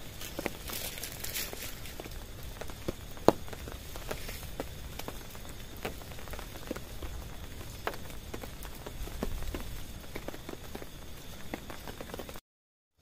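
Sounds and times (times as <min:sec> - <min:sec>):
rain hiss: 0:00.0 - 0:12.4
raindrops hitting a tent: 0:00.0 - 0:12.4.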